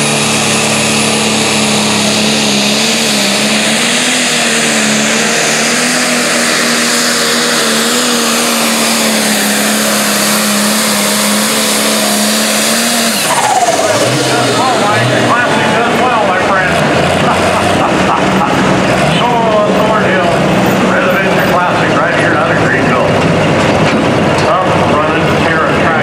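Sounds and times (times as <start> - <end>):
tractor diesel engine running flat out: 0.0 - 26.0.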